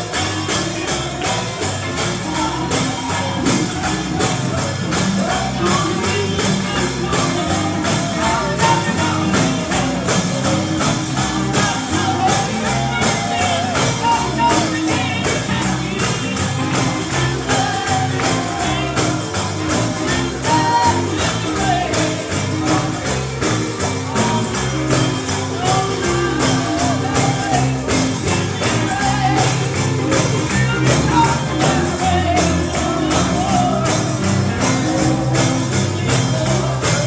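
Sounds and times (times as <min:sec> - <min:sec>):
live gospel music: 0:00.0 - 0:37.0
tambourine beat: 0:00.0 - 0:37.0.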